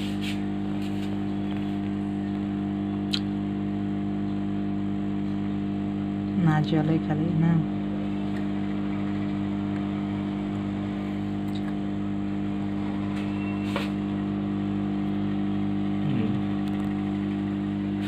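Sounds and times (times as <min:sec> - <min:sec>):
hot-air station blowing hum: 0:00.0 - 0:18.0.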